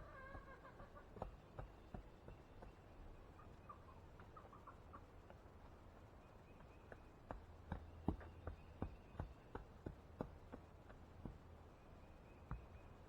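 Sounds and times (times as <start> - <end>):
faint chicken clucks: 0.0 - 13.0.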